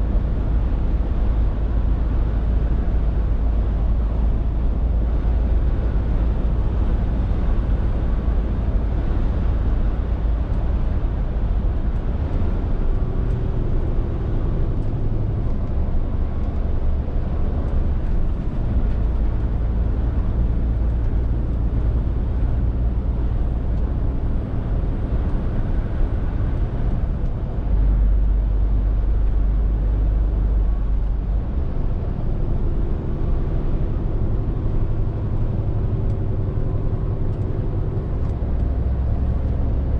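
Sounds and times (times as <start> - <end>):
lorry diesel engine drone: 0.0 - 39.9
tyre and road noise: 0.0 - 39.9.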